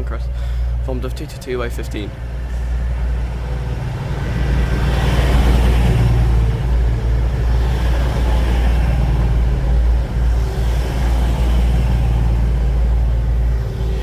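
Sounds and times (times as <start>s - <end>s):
train diesel engines droning: 0.0s - 14.0s.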